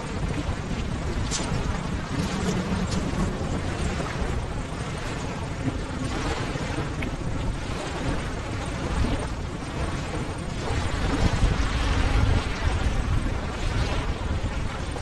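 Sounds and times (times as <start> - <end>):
ocean surf rumbling: 0.0 - 15.0.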